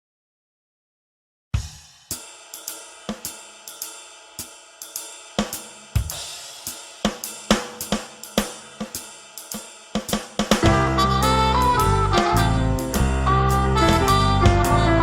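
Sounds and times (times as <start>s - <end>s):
drum kit playing a beat: 1.6s - 15.0s.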